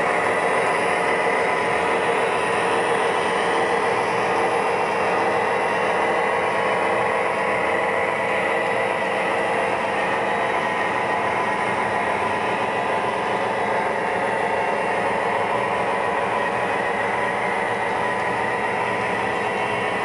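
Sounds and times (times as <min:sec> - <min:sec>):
model train wheels rumbling on rail: 0:00.0 - 0:20.0.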